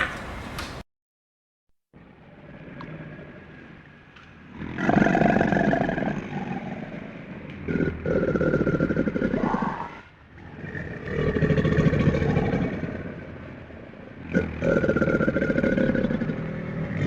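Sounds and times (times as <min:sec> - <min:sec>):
large animal calling: 0:02.4 - 0:17.0.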